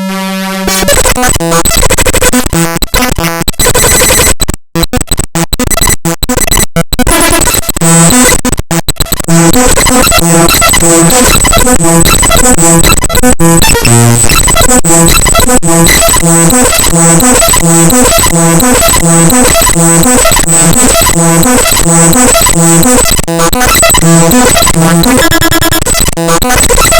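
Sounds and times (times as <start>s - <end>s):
harsh buzzing noise: 0.0s - 26.9s.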